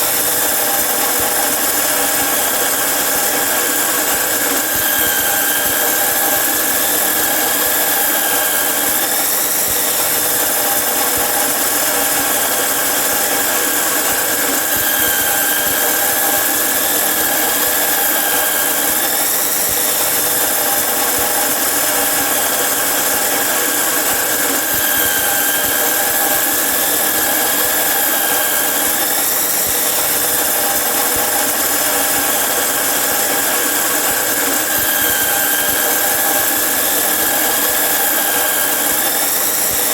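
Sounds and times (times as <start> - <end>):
angle grinder cutting iron: 0.0 - 39.9.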